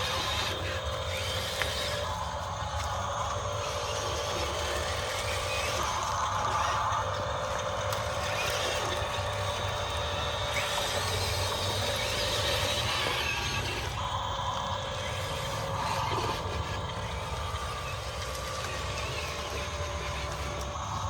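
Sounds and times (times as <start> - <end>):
high motor whine: 0.0 - 21.0
toy machine motors humming: 0.0 - 21.0.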